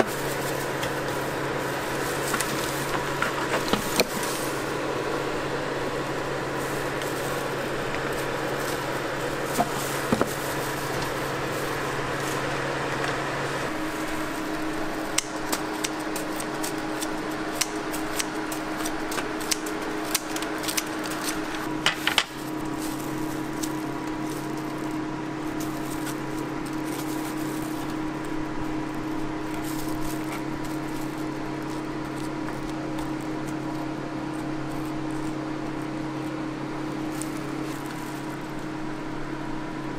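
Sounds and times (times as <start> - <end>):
kitchen appliances humming: 0.0 - 39.9.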